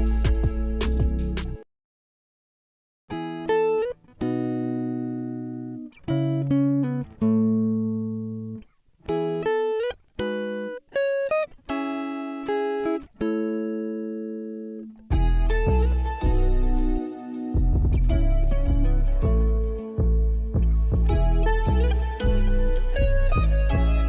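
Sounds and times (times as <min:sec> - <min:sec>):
plucked guitar-like melody: 0:00.0 - 0:01.6, 0:03.1 - 0:24.0.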